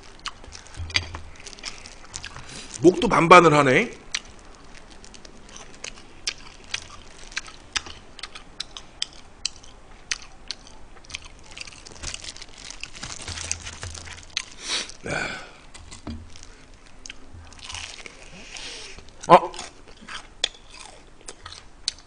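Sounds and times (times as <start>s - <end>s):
chewing crispy chicken crunches: 0.0s - 3.0s, 4.0s - 15.0s, 15.6s - 22.0s.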